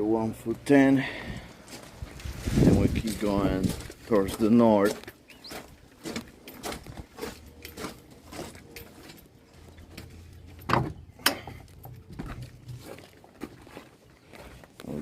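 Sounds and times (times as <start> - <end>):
footsteps walking: 0.4 - 15.0.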